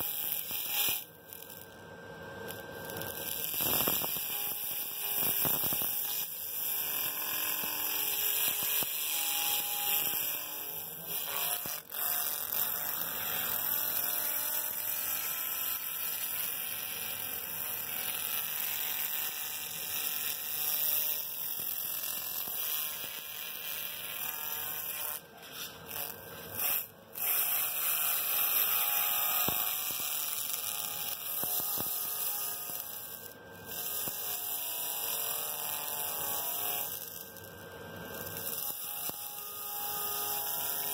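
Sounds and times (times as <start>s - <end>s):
laser cleaner hissing buzz: 0.0s - 37.5s, 38.1s - 40.9s.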